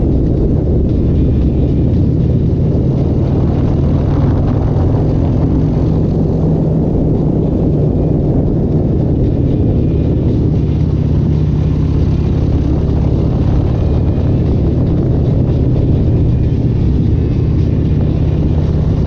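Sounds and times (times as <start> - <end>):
loud engine running: 0.0 - 19.0.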